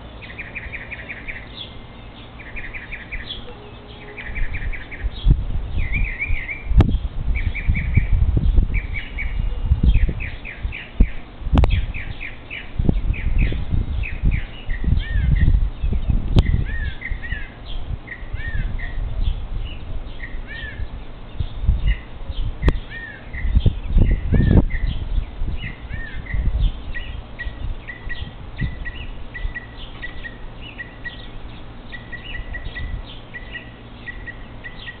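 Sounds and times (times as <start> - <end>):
small songbirds chirping: 0.0 - 35.0.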